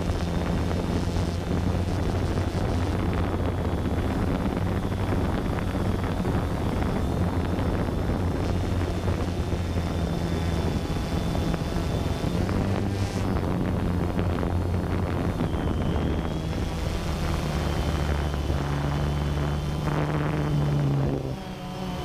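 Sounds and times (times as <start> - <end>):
wind buffeting microphone: 0.0 - 21.4
drone propellers whirring: 0.0 - 22.0.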